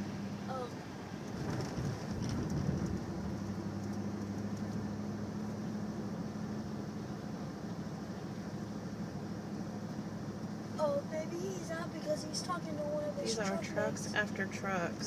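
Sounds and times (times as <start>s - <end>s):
car engine hum: 0.0s - 15.0s
road noise hiss: 0.0s - 15.0s.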